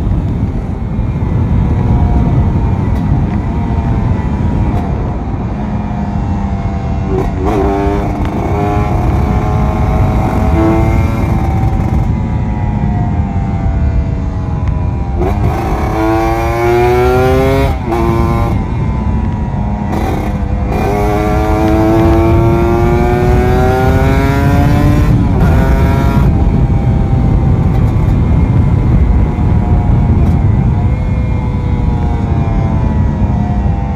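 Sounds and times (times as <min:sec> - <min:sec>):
motorcycle engine accelerating: 0:00.0 - 0:33.9
wind rushing over microphone: 0:00.0 - 0:33.9.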